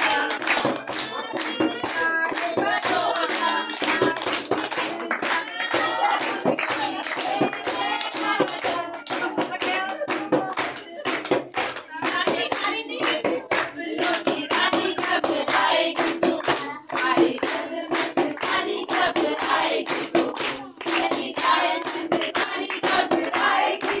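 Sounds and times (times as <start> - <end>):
rhythmic hand clapping: 0.0 - 24.0
women singing together: 0.0 - 24.0.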